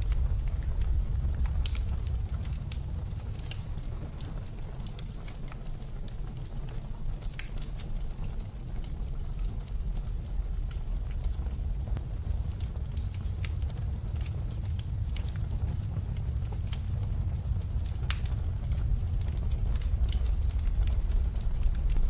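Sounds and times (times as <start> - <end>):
blizzard wind rumble: 0.0 - 22.0
wood fire crackling and popping: 0.0 - 22.0.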